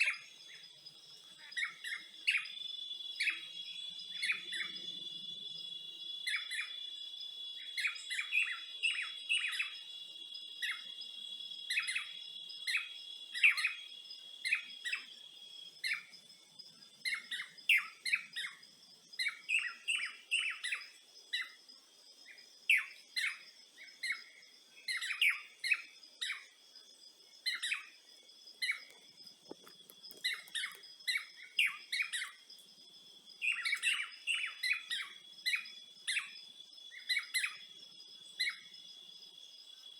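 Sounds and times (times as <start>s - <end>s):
birds chirping: 0.0s - 38.8s.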